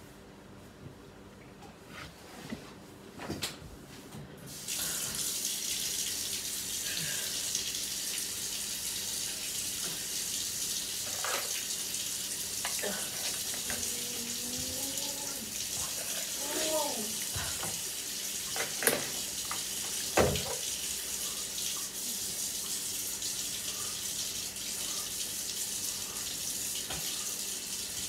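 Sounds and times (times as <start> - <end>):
kitchen tap running: 4.5 - 28.0.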